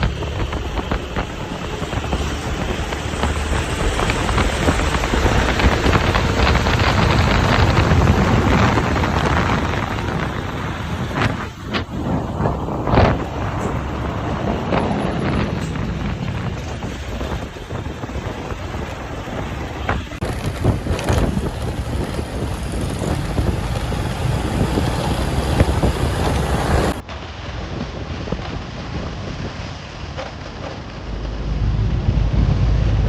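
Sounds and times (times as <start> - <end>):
deep rumble: 0.0 - 33.0
heavy truck and highway traffic: 0.0 - 33.0
wind buffeting microphone: 0.0 - 33.0.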